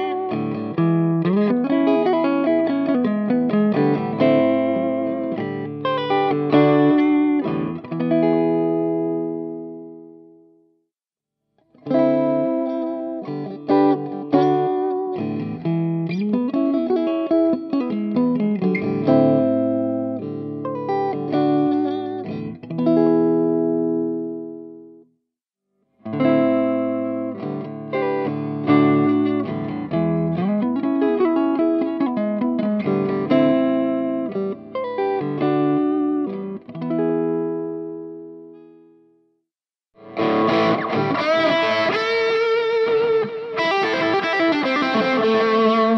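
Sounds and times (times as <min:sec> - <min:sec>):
clean electric guitar chords: 0:00.0 - 0:10.6, 0:11.8 - 0:25.0, 0:26.0 - 0:39.0, 0:40.0 - 0:45.9.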